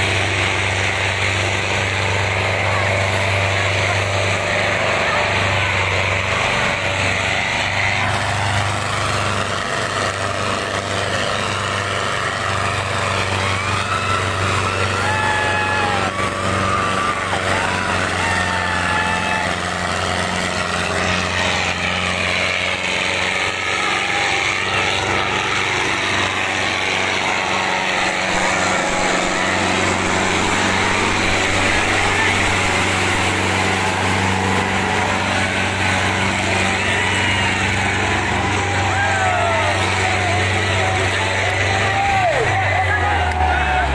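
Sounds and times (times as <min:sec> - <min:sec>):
faint voices calling out: 0:00.0 - 0:43.9
tractor diesel engine running: 0:00.0 - 0:43.9.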